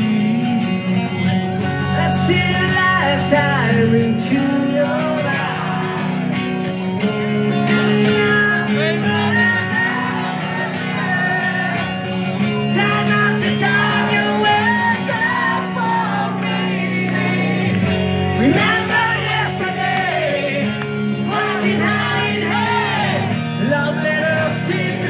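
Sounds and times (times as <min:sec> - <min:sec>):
lead guitar melody: 0:00.0 - 0:25.0
live rock band playing: 0:00.0 - 0:25.0.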